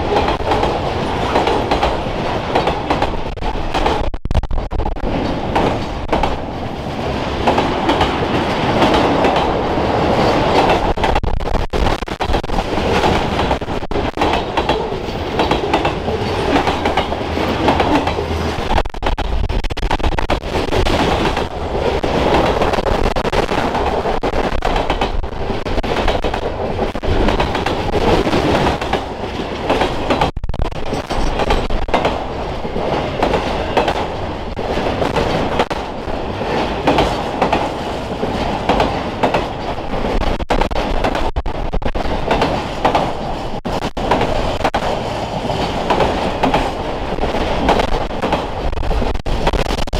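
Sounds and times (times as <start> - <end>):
wheels clacking over rail joints: 0.0 - 4.0, 5.0 - 11.2, 12.2 - 19.4, 20.3 - 41.4, 42.0 - 49.9
train wheels rumbling on rail: 0.0 - 49.9.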